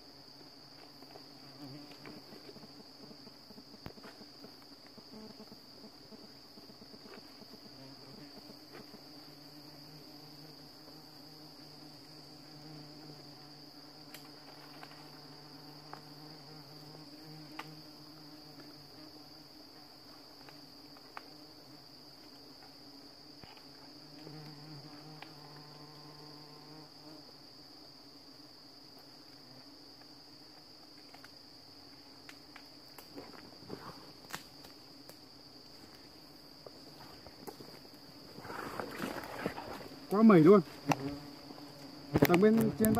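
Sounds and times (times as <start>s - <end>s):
wasps humming: 0.0s - 27.8s, 34.8s - 42.9s
forest insects trilling: 0.0s - 42.9s.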